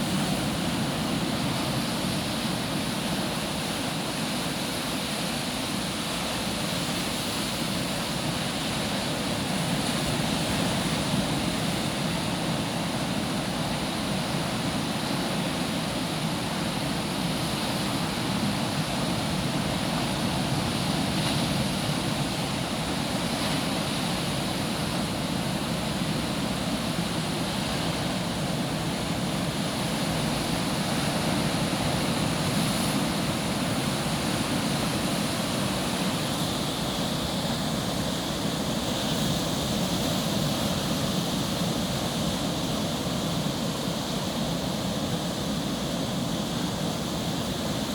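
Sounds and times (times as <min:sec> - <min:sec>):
ocean surf breaking on beach: 0:00.0 - 0:47.9.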